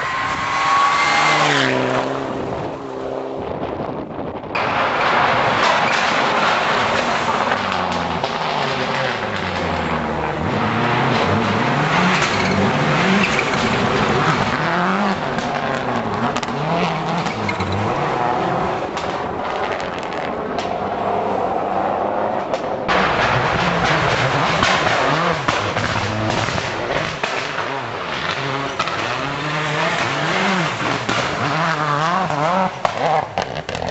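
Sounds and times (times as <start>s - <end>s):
car engine revving: 0.0s - 4.0s, 4.6s - 33.9s.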